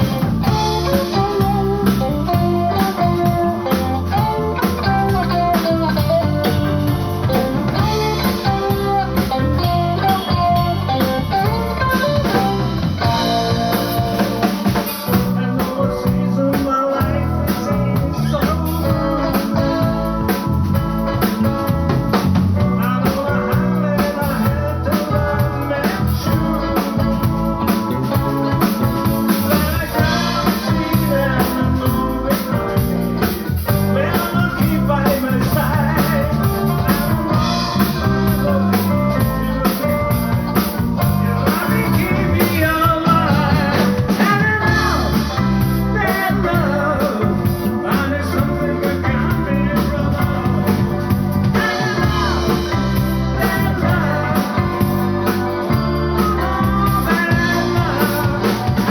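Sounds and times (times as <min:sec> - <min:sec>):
bass guitar: 0:00.0 - 0:58.9
drum kit: 0:00.0 - 0:58.9
electric guitar: 0:00.0 - 0:58.9.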